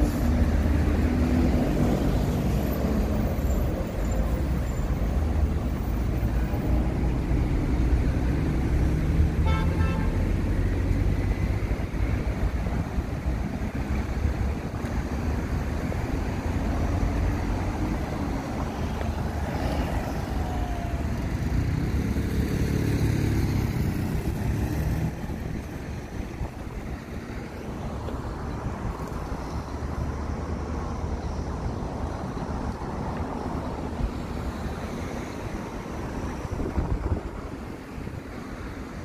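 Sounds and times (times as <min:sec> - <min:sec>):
cars passing on road: 0:00.0 - 0:39.0.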